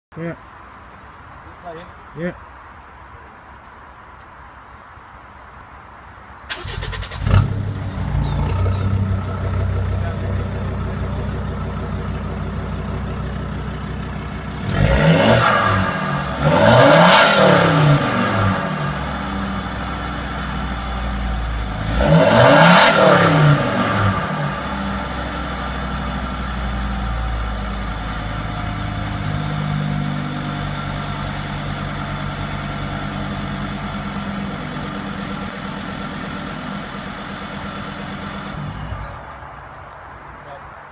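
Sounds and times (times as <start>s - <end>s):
engine revving: 6.5s - 39.4s
diesel engine starting and idling: 6.5s - 40.0s.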